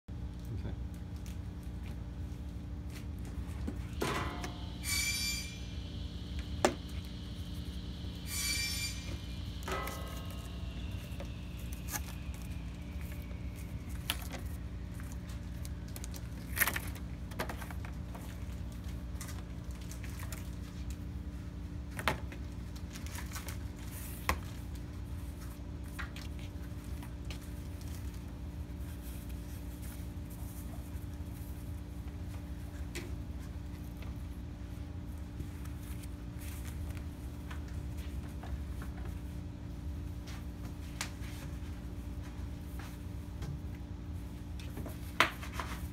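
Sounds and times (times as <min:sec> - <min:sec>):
room hum: 0:00.1 - 0:45.9.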